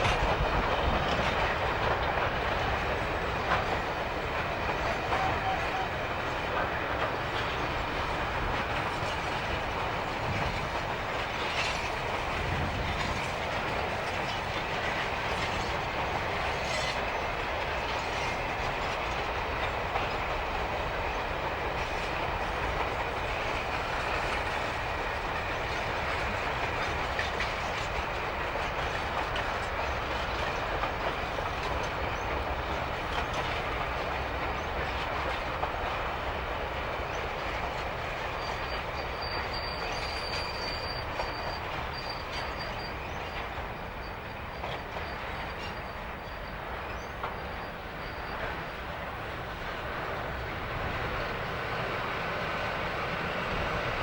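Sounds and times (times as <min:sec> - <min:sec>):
freight train wheels clicking: 0:00.0 - 0:54.0.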